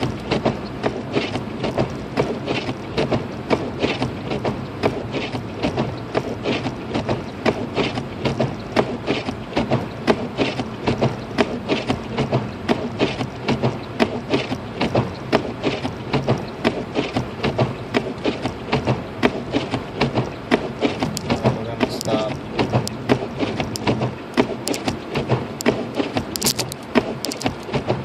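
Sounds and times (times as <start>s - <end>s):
car engine and road hum: 0.0s - 28.0s
rapid irregular clicking: 0.0s - 28.0s.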